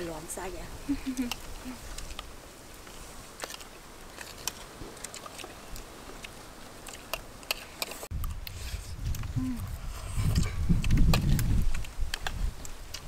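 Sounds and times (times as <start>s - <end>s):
chewing: 0.8s - 13.0s.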